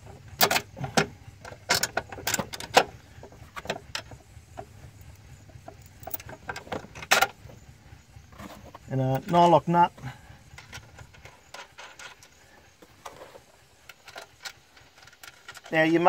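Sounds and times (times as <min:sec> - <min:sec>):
metal bolts and washers clinking: 0:00.0 - 0:07.6, 0:10.4 - 0:16.0.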